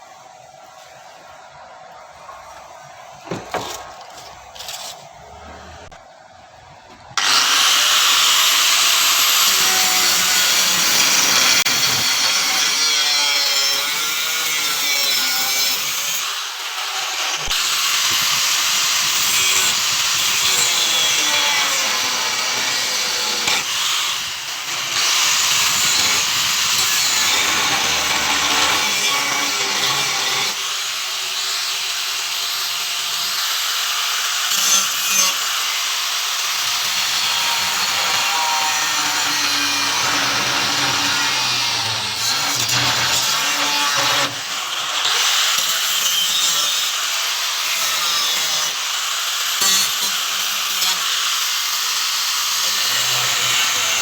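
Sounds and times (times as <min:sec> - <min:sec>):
power tool grinding: 0:02.2 - 0:06.3, 0:06.9 - 0:54.0.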